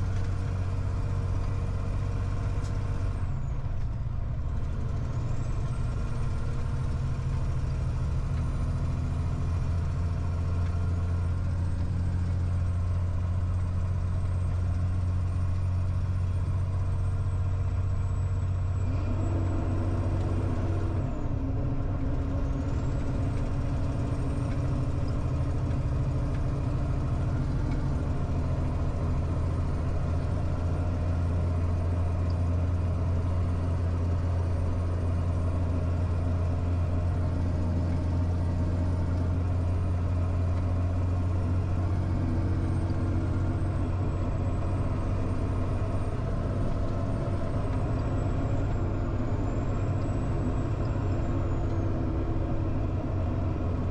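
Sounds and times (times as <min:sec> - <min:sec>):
truck diesel engine driving: 0:00.0 - 0:53.9.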